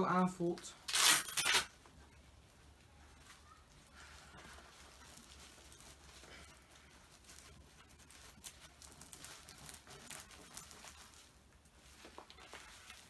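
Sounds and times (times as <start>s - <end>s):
glove fabric rustling: 0.8s - 13.0s.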